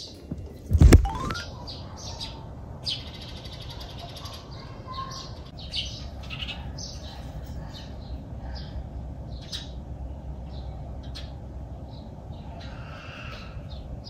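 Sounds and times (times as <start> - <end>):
small birds chirping: 0.9 - 14.0.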